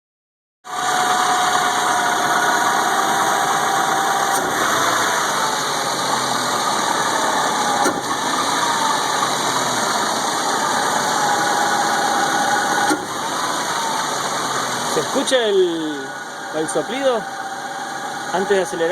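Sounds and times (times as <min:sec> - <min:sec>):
engine running: 0:00.7 - 0:18.9.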